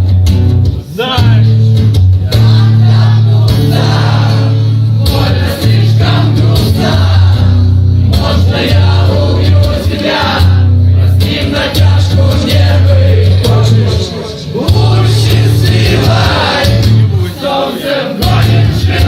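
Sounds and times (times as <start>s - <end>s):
heavy low bass: 0.0s - 17.4s
acoustic guitar: 0.0s - 19.0s.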